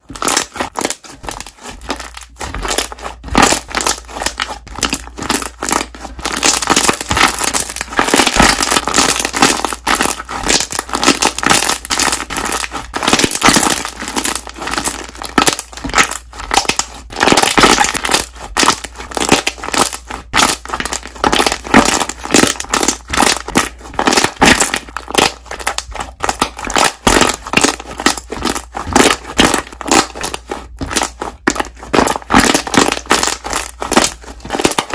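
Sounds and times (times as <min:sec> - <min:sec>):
slime bubbles popping: 0:00.0 - 0:34.9.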